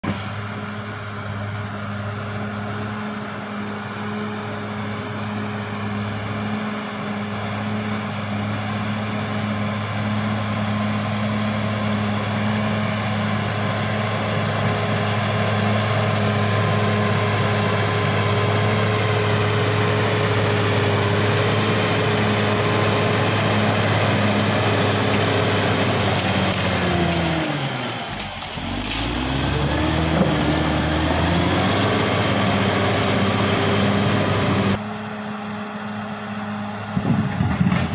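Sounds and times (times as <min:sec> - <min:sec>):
bulldozer diesel engine running: 0:00.0 - 0:37.9.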